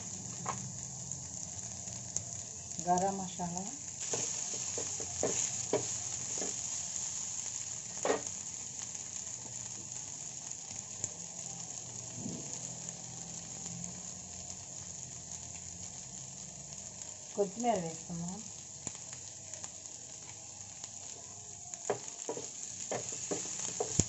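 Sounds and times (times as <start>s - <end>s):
filling sizzling in oil: 0.0s - 24.0s.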